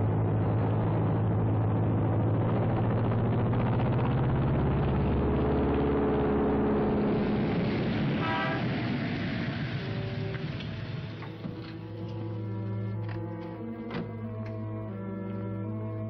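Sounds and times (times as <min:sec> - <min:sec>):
higher engine tone: 0:00.0 - 0:16.0
propeller plane engines droning: 0:00.0 - 0:16.0.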